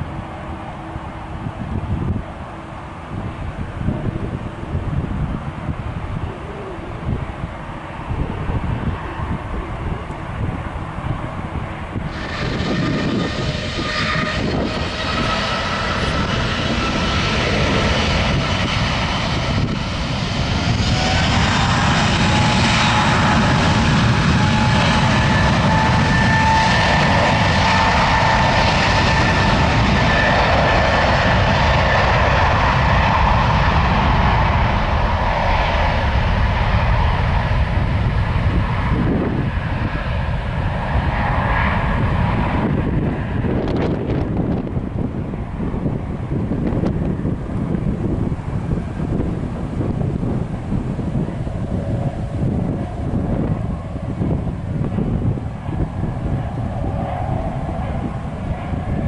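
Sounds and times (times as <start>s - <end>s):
jet engines rumbling: 0.0s - 59.0s
rising engine whine: 0.0s - 59.0s.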